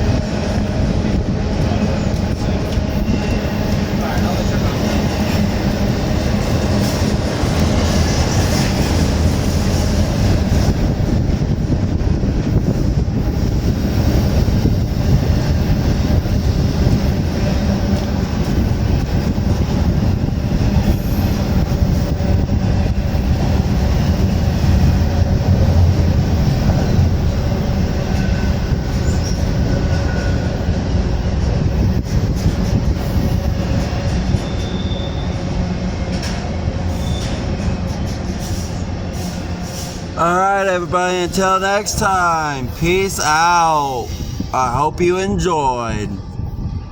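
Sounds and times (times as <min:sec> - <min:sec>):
freight train rumbling on rails: 0:00.0 - 0:40.2, 0:44.0 - 0:44.6.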